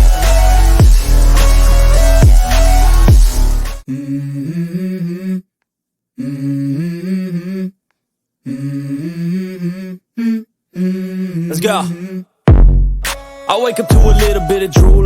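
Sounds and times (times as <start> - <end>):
wordless vocal melody: 0.0 - 5.5, 6.2 - 7.8, 8.4 - 12.4, 13.2 - 15.0.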